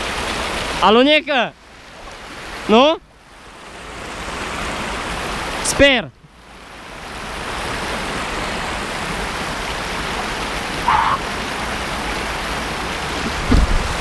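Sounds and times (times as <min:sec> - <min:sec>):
river water rushing over weir: 0:00.0 - 0:14.0.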